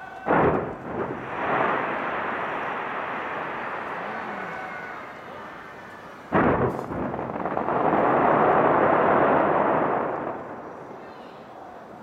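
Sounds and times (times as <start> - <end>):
fireworks booming and bursting: 0.0 - 12.0.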